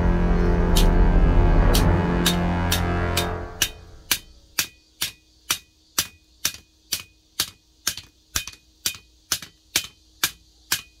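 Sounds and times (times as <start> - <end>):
hammer striking blade on anvil: 0.8 - 1.0, 1.7 - 11.0.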